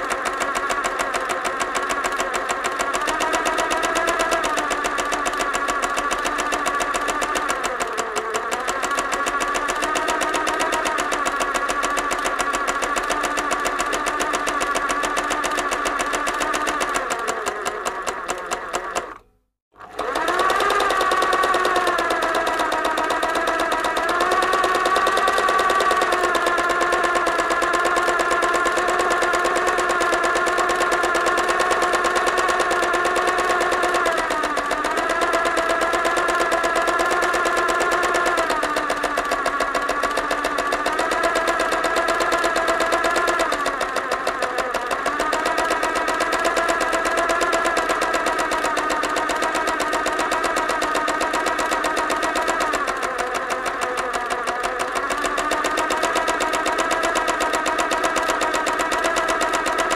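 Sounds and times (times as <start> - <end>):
sewing machine running fast: 0.0 - 59.9.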